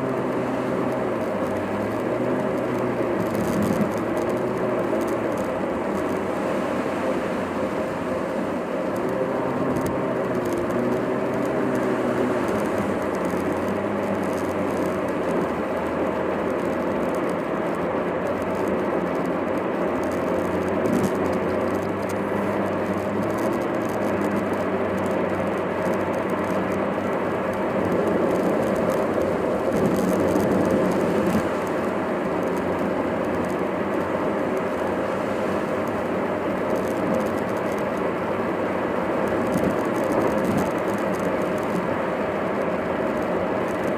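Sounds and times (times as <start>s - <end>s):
car engine and tyre noise: 0.0s - 43.9s.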